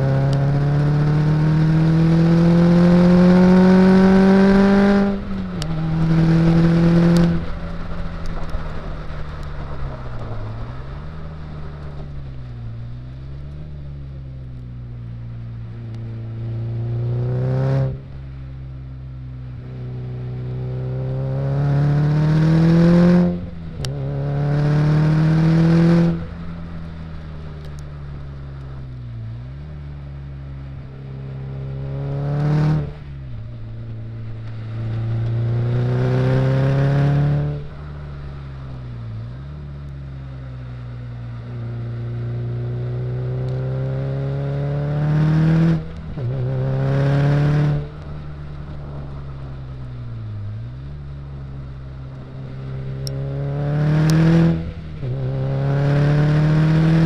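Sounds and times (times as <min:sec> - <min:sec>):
car engine revving at full throttle: 0:00.0 - 0:18.4, 0:19.4 - 0:57.0.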